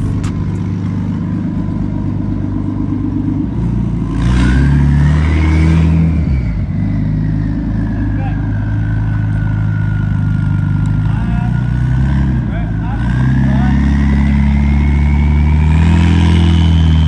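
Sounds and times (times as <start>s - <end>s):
car engine idling and revving: 0.0s - 17.0s
engine whine: 0.0s - 17.0s.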